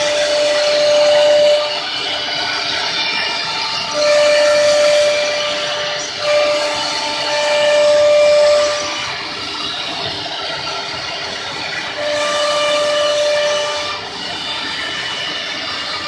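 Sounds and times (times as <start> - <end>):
router spindles whining: 0.0 - 16.0.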